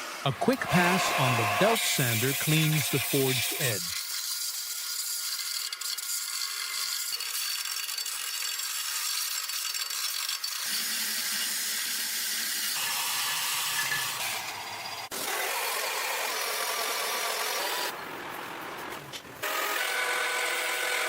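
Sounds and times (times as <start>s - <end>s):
belt sander grinding steel: 0.1s - 17.9s, 18.9s - 21.0s.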